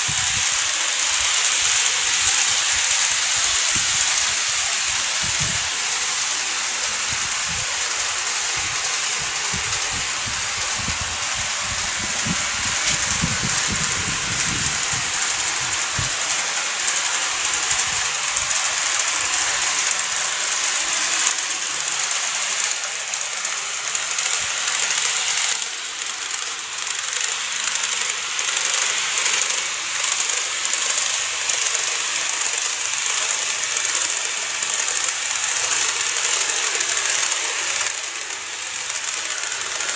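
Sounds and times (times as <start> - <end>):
model train wheels hissing: 0.0 - 39.9.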